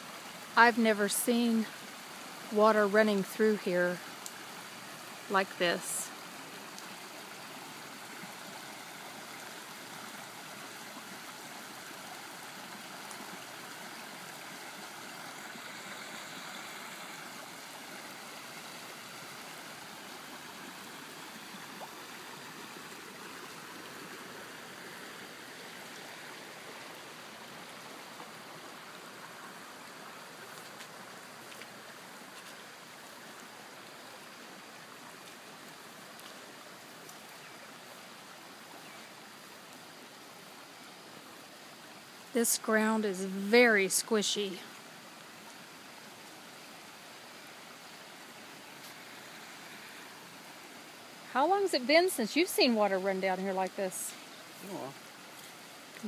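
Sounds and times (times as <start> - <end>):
rushing floodwater: 0.0 - 56.0.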